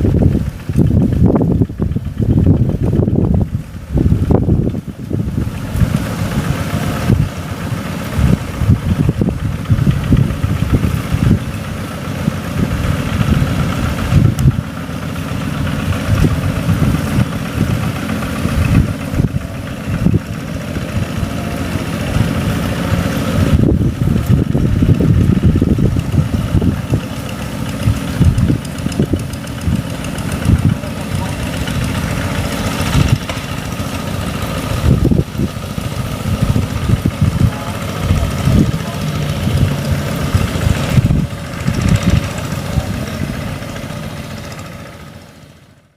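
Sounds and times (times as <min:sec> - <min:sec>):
tractor engine rumbling: 0:00.0 - 0:45.9.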